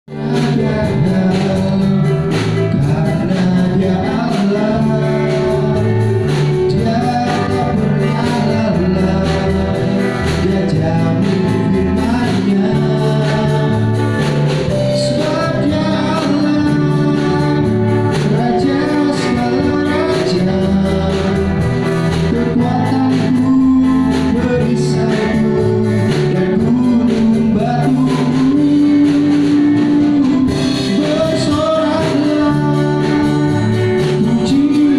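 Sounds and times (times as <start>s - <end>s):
band accompaniment with beat: 0.1s - 34.9s
people singing: 0.1s - 34.9s.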